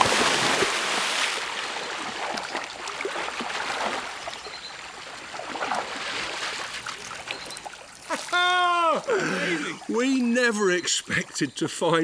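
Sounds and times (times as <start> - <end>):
river water splashing and trickling: 0.0 - 12.0.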